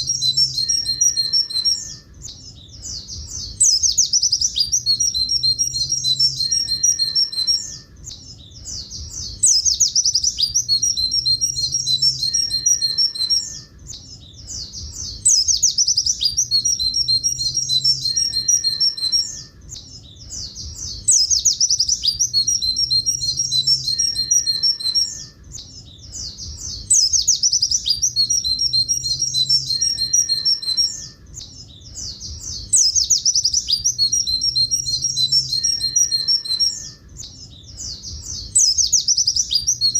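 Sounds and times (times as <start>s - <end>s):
bird singing twittering song: 0.0s - 39.9s.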